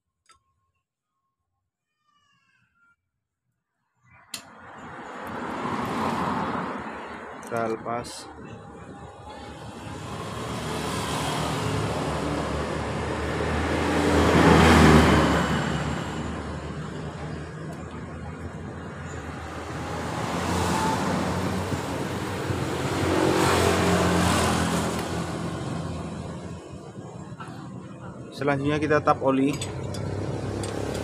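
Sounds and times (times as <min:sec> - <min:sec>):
vehicles passing by: 0:04.0 - 0:31.0.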